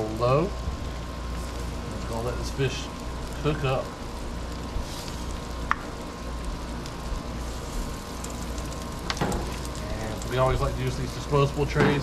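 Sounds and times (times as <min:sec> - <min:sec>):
fish sizzling on a grill: 0:00.0 - 0:12.0.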